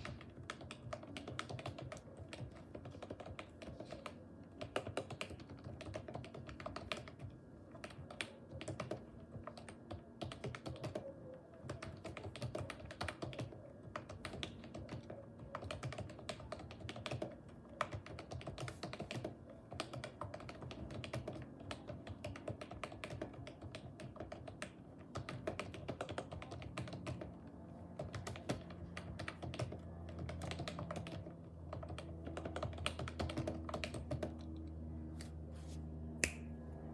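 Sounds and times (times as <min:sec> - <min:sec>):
fast keyboard typing: 0:00.0 - 0:34.8.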